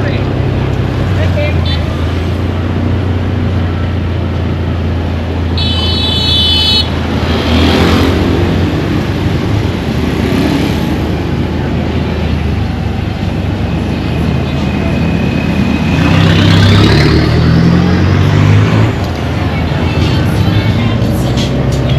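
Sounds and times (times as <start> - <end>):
traffic engine hum: 0.0 - 21.9
vehicles passing: 0.0 - 21.9.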